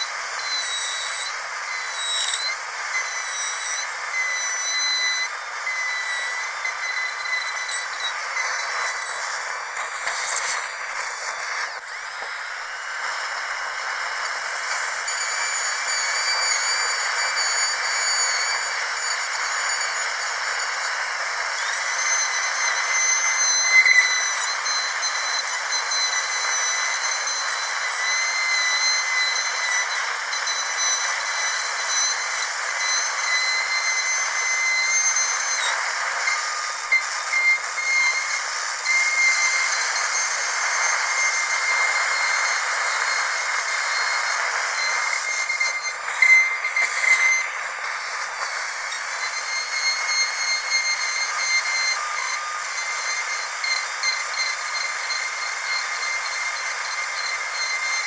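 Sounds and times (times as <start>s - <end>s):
dental drill whining: 0.0s - 58.0s.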